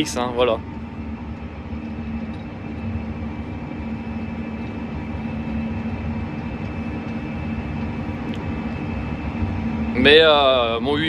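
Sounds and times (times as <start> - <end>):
tractor engine drone in cab: 0.0 - 11.0.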